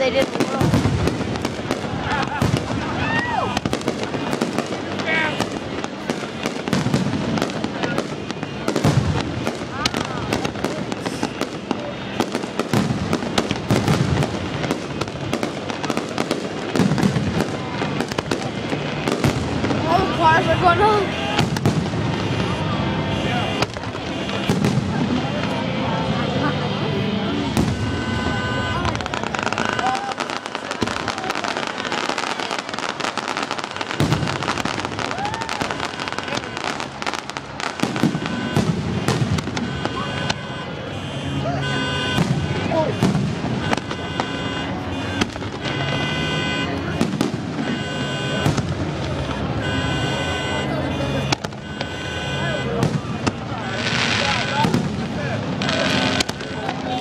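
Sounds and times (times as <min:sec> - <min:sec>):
fireworks crackling pops: 0:00.0 - 0:26.4, 0:27.4 - 0:57.0
low rumbling fireworks booms: 0:00.0 - 0:57.0.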